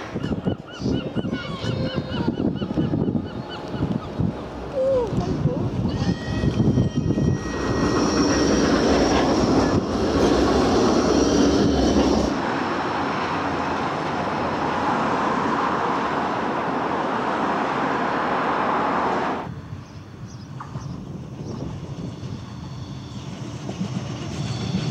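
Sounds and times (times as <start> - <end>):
tram wheels rolling on rails: 1.7 - 24.9.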